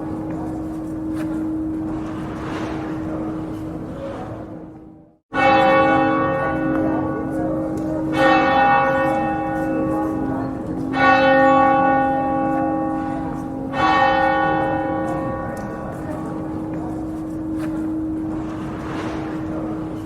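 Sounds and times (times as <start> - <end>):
church bell tolling: 0.0 - 20.0.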